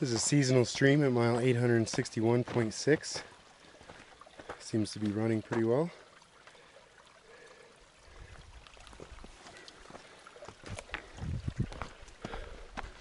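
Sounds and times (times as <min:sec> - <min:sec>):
stream trickling over rocks: 0:00.0 - 0:13.0.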